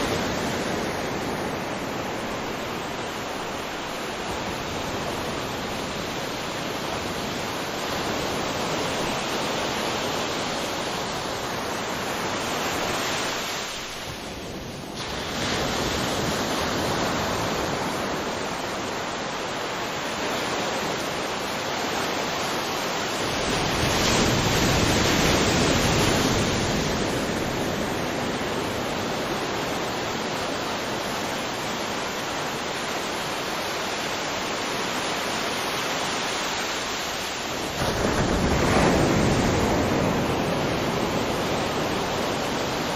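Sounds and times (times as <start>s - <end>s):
ocean waves on beach: 0.0s - 42.9s.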